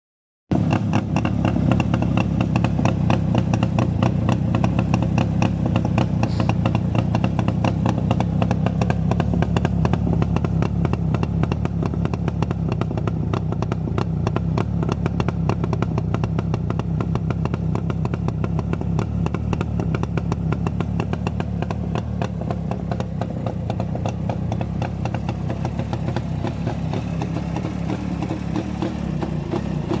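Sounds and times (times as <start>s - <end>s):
motorcycle engine running: 0.5s - 30.0s.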